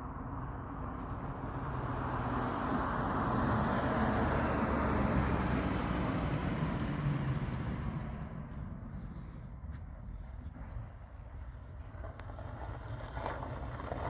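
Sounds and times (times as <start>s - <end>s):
motor vehicle passing: 0.0s - 14.0s.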